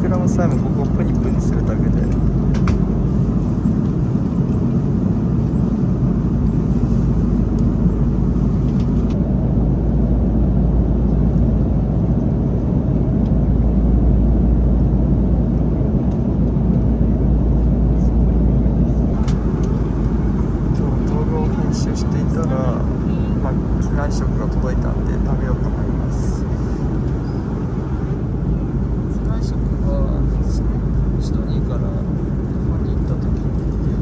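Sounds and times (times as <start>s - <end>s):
airplane cabin engine drone: 0.0s - 34.0s.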